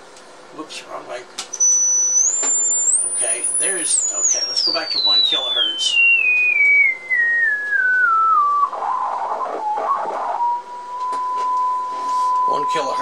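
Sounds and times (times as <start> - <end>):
sine-wave test tone from speaker: 1.5 - 13.0.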